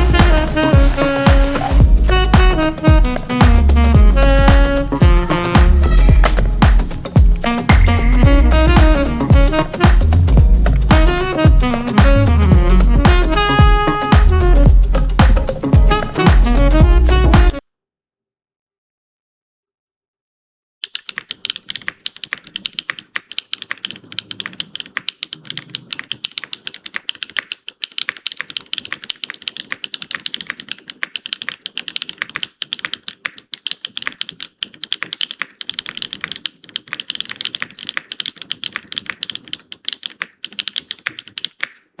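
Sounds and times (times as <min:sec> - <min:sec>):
mechanical keyboard typing: 0:00.0 - 0:17.6, 0:20.8 - 0:42.0.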